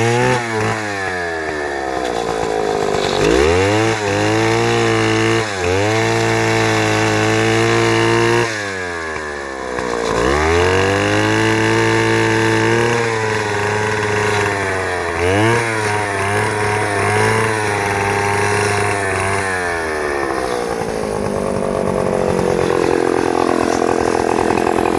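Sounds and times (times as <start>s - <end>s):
chainsaw engine running: 0.0s - 24.9s.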